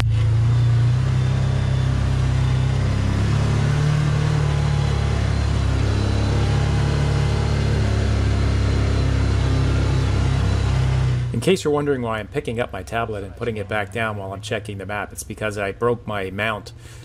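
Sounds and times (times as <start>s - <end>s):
engine droning: 0.0s - 17.0s
road and wind noise: 0.0s - 17.0s.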